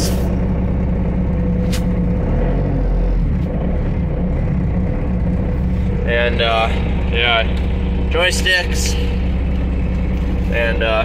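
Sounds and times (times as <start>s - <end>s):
diesel engine low rumble: 0.0s - 11.0s.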